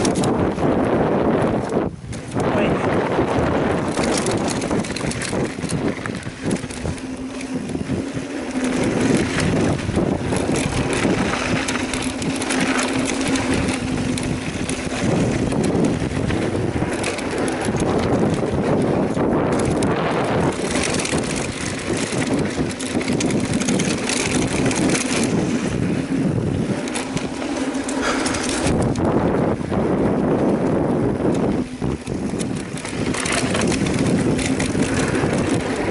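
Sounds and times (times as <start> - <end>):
bike tyres crunching over gravel: 0.0 - 35.9
wind on microphone: 0.0 - 35.9.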